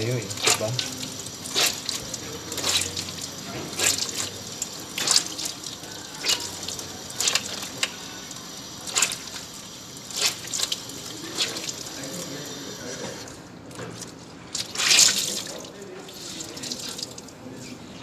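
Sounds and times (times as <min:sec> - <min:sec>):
cloth splashing and squelching: 0:00.0 - 0:12.2, 0:13.9 - 0:17.4
tap water running: 0:00.0 - 0:17.4.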